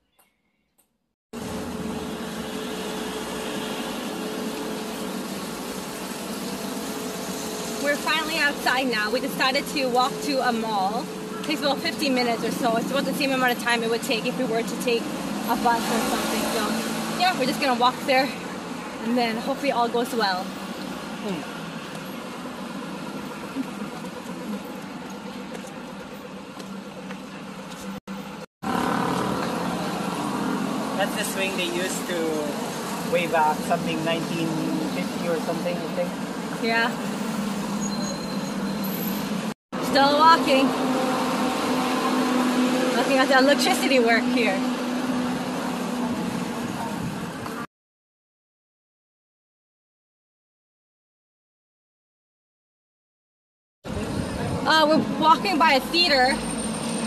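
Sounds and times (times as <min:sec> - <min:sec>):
road traffic noise: 0:00.8 - 0:47.7, 0:53.8 - 0:57.0.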